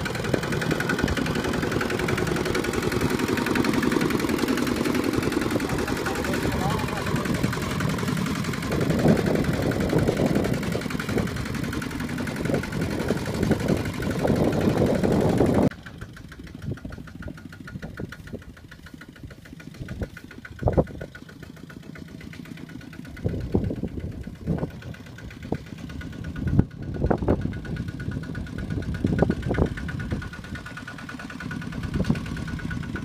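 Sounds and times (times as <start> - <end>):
diesel tractor engine running: 0.0 - 33.0.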